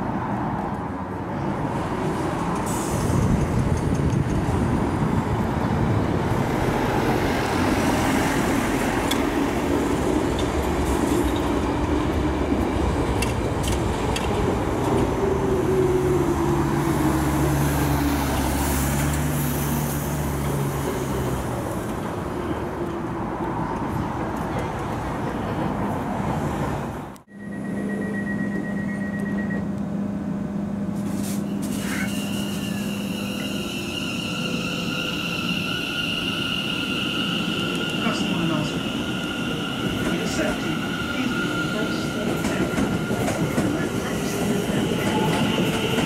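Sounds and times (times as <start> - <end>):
train rumbling: 0.0 - 46.0.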